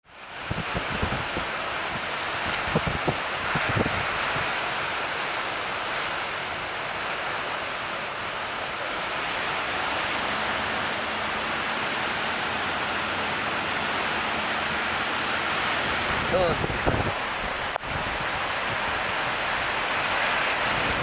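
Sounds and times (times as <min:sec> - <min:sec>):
driving rain: 0:00.0 - 0:21.0
hurricane wind rushing: 0:00.1 - 0:21.0.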